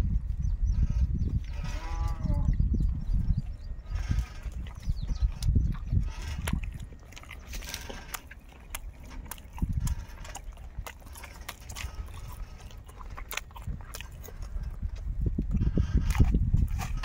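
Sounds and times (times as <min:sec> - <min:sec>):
goats tearing and chewing grass: 0:00.0 - 0:17.0
low rumble: 0:00.0 - 0:17.0.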